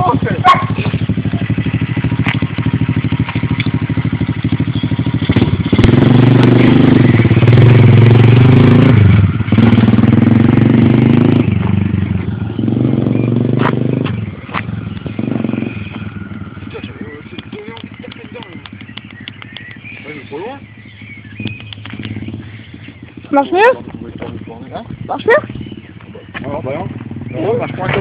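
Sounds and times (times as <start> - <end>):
small motorbike engine revving: 0.0 - 28.0.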